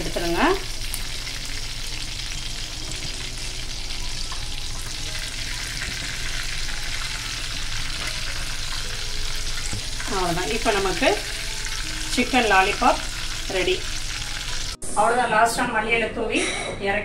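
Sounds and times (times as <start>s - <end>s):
food frying in hot oil: 0.0s - 14.8s.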